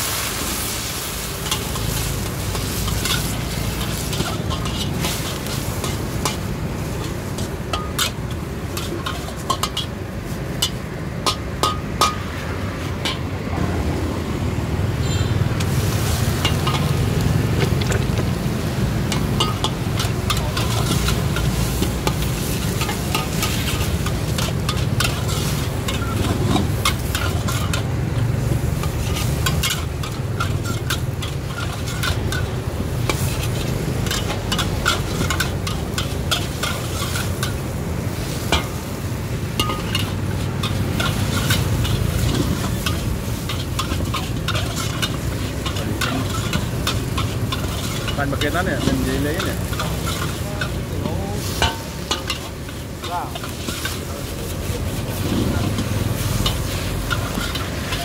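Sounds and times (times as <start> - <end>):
metal spatula scraping wok: 0.0 - 14.2, 14.9 - 58.0
food sizzling in hot oil: 0.0 - 58.0.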